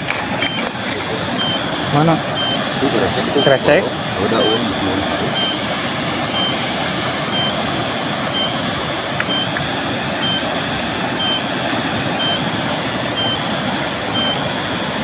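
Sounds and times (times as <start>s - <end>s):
river water rushing: 0.8s - 15.0s.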